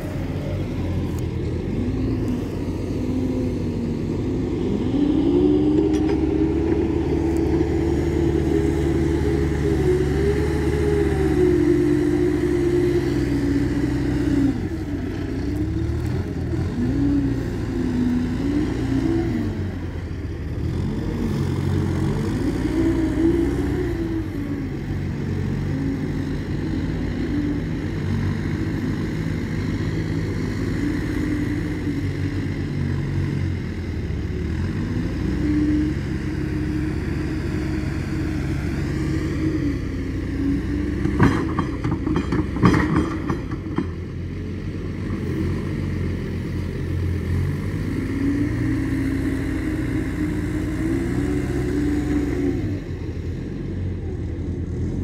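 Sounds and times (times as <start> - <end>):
diesel engine revving: 0.0 - 55.0.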